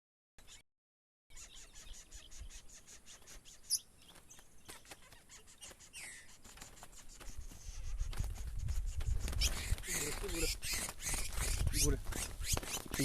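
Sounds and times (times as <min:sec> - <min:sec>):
songbird calling: 0:01.3 - 0:13.0.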